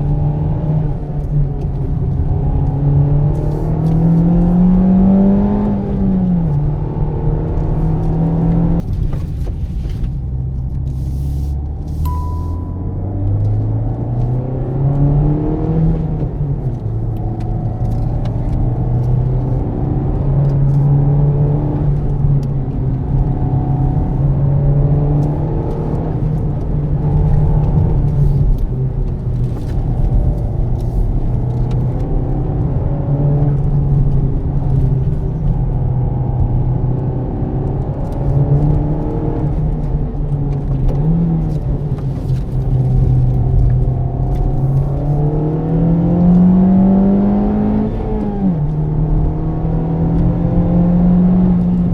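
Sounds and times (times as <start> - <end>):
car engine accelerating: 0.0 - 51.9
road noise: 0.0 - 51.9.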